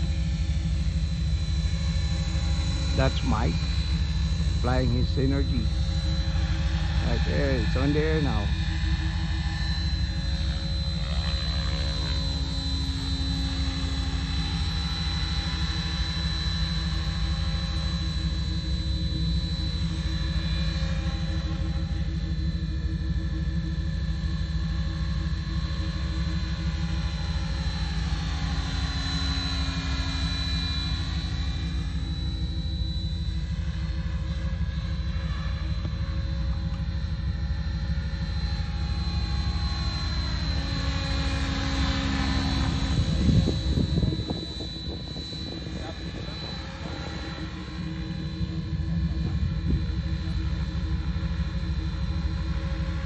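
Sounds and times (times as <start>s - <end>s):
low unsteady rumble: 0.0s - 53.0s
rc helicopter rotor whine: 0.0s - 53.0s.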